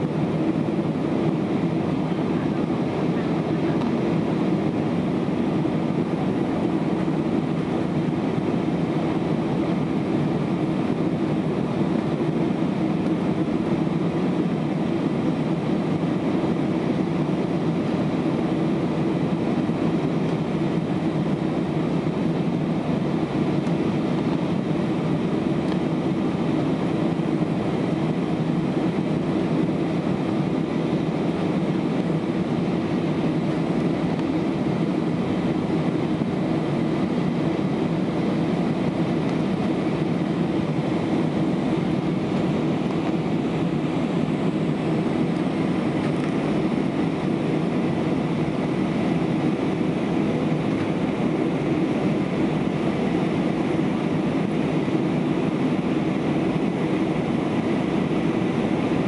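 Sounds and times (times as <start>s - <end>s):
airflow rushing over fuselage: 0.0s - 59.0s
jet engines humming: 0.0s - 59.0s.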